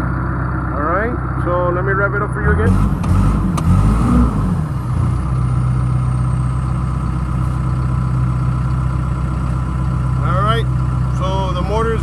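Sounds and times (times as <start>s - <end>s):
diesel engine revving: 0.0s - 12.0s.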